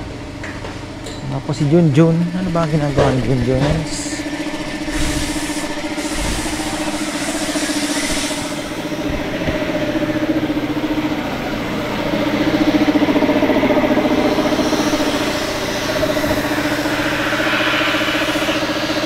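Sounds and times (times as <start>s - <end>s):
small engine running: 1.5s - 19.0s.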